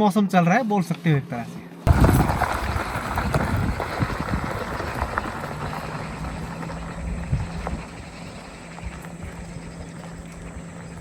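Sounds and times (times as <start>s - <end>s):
engine hum: 1.8s - 11.0s
low rumble: 1.9s - 11.0s
tyres crunching on stones: 1.9s - 11.0s.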